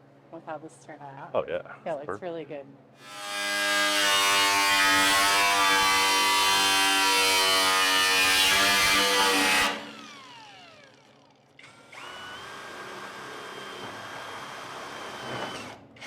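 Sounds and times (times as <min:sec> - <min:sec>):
power tool whining: 0:03.0 - 0:16.0.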